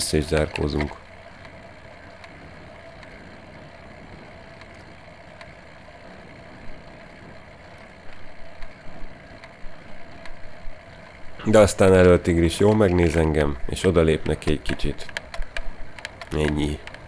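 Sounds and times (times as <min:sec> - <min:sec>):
bicycle tyres rolling: 0:00.0 - 0:17.0.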